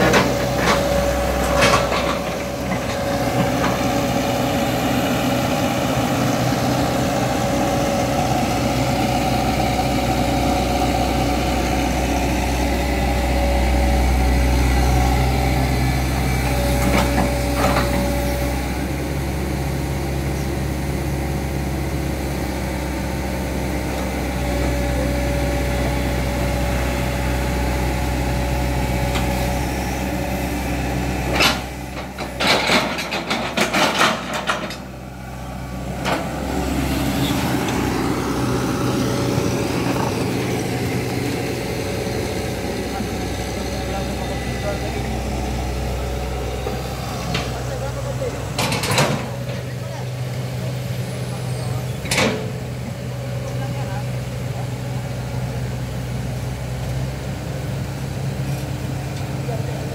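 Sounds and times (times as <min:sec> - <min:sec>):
engines droning: 0:00.0 - 0:59.9.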